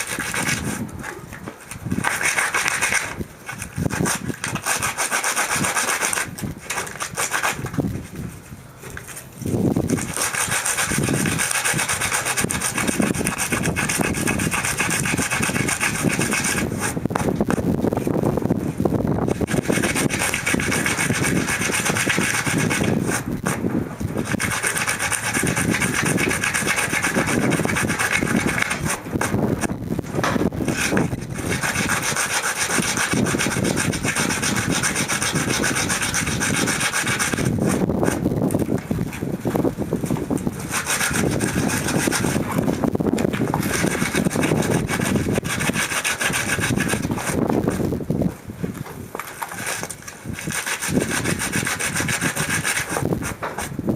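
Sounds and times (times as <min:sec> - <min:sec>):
sandpaper rubbing on pelt: 0:00.0 - 0:48.0, 0:49.2 - 0:53.8.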